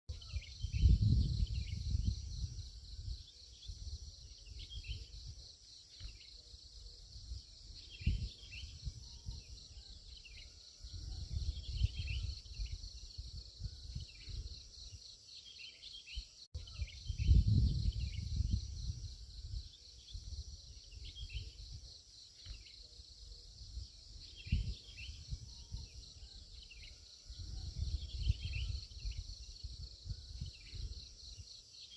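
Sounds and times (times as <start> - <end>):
insect trill: 0.1 - 31.9.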